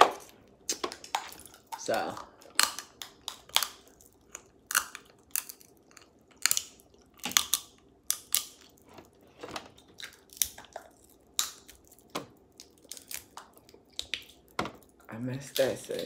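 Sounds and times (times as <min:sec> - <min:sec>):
person chewing and biting: 0:00.0 - 0:15.1
crab shell cracking: 0:00.7 - 0:08.8, 0:09.8 - 0:16.0.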